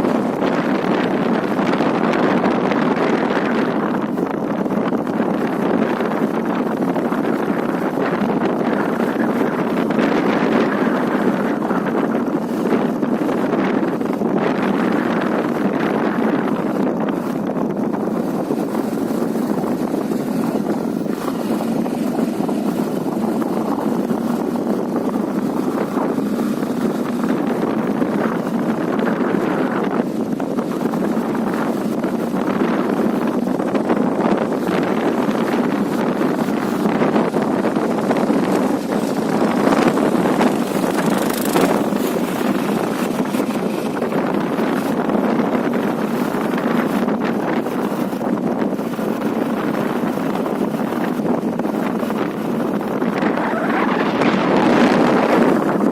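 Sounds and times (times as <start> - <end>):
motorcycle running at speed: 0.0 - 55.9
wind buffeting microphone: 0.0 - 55.9.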